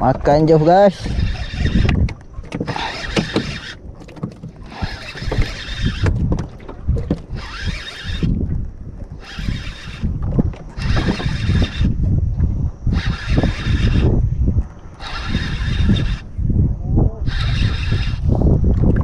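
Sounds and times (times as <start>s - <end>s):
wind buffeting microphone: 0.0s - 19.0s
fishing reel whirring: 0.5s - 19.0s.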